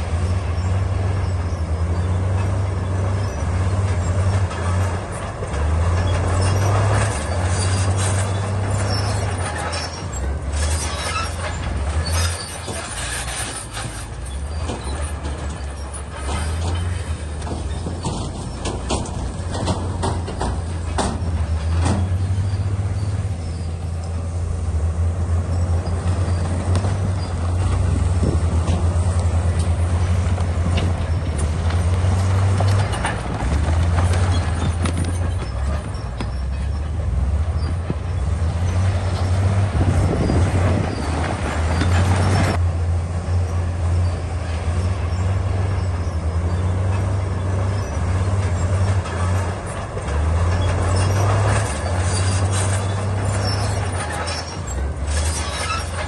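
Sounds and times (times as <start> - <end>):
bulldozer diesel engine drone: 0.0 - 56.0
metallic clatter and knocks: 2.2 - 24.1, 25.8 - 42.6, 45.9 - 56.0.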